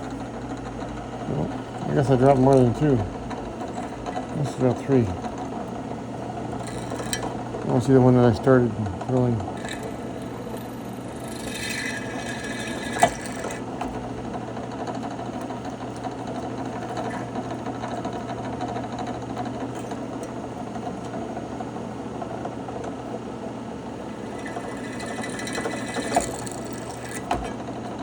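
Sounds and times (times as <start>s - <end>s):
drill press motor hum: 0.0s - 28.0s.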